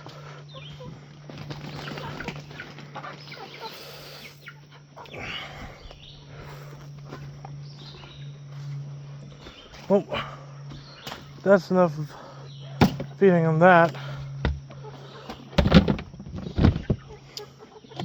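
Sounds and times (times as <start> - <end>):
chickens clucking: 0.0 - 11.4, 12.2 - 18.0
steady low hum: 0.0 - 18.0.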